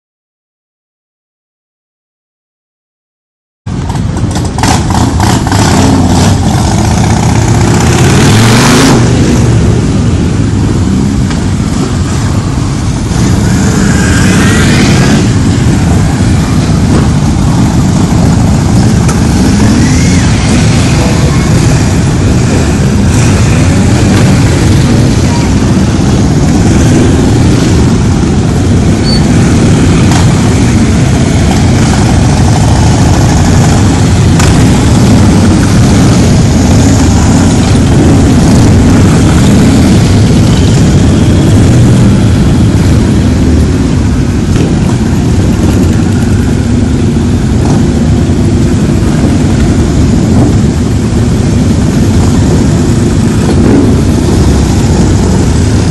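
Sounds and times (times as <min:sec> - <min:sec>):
motorcycles rumbling past: 0:03.9 - 0:55.9.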